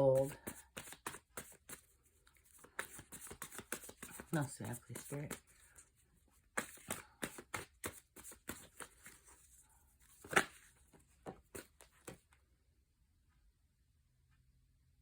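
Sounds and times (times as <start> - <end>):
cards being shuffled: 0.0 - 12.3.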